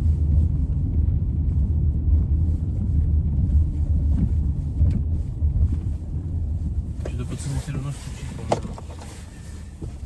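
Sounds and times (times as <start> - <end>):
tyres rolling on asphalt: 0.0 - 10.0.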